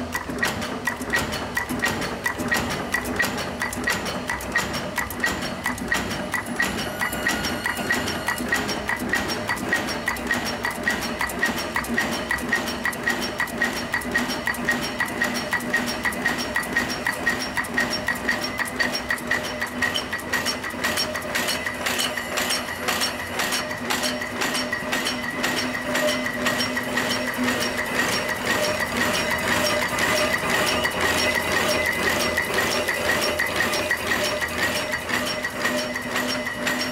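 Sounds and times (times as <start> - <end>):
cold header machine clattering: 0.0 - 36.9
steady machine hum: 0.0 - 36.9.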